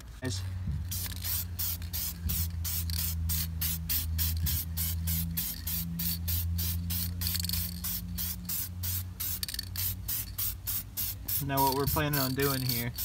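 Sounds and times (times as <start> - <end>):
steady low hum: 0.0 - 13.0
spray can hissing: 0.7 - 13.0.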